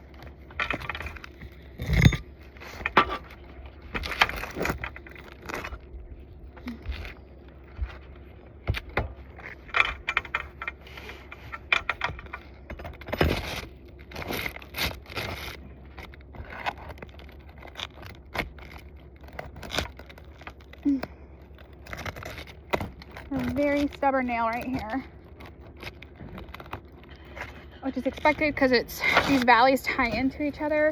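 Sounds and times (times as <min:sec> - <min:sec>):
tool scraping under roof shingles: 0:00.0 - 0:30.9.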